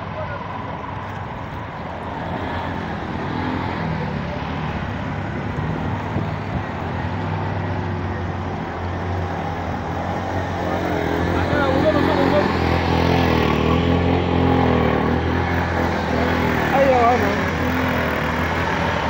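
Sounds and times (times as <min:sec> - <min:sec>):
vehicle engines running slowly: 0:00.0 - 0:19.0.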